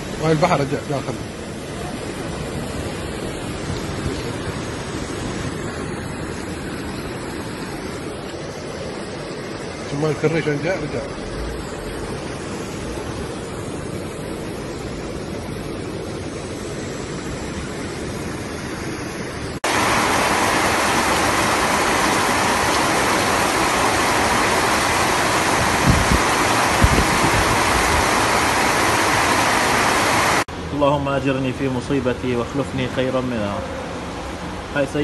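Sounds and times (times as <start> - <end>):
rain hissing: 0.0 - 30.7
surf and floodwater rushing: 0.0 - 35.0.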